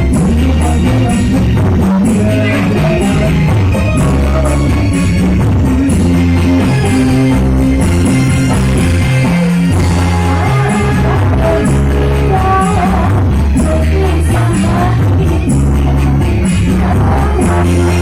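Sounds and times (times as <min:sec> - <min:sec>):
bass line: 0:00.0 - 0:18.0
live rock band music: 0:00.0 - 0:18.0.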